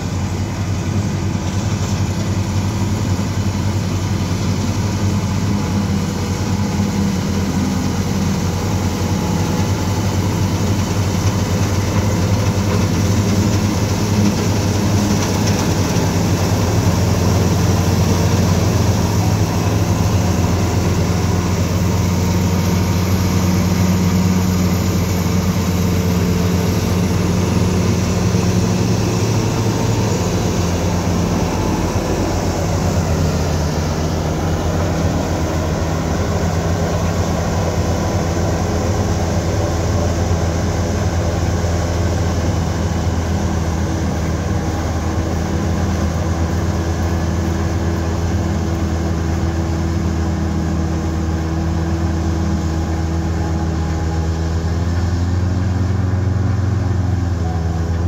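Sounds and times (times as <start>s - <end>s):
threshing machinery whirr: 0.0s - 58.0s
tractor engine hum: 0.0s - 58.0s.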